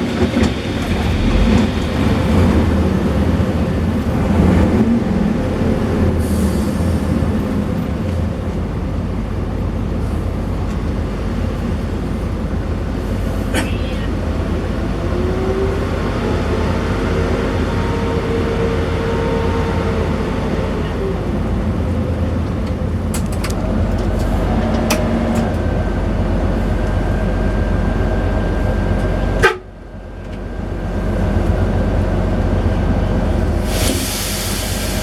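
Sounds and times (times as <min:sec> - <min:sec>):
coach engine droning: 0:00.0 - 0:35.0
road noise: 0:00.0 - 0:35.0.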